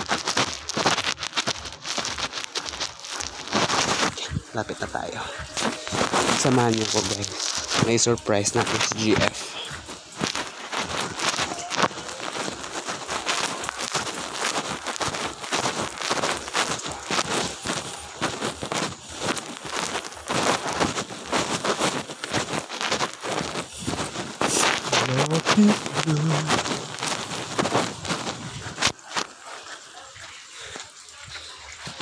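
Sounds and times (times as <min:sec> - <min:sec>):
footsteps on wet pavement: 0:00.0 - 0:32.0
rain: 0:00.0 - 0:32.0.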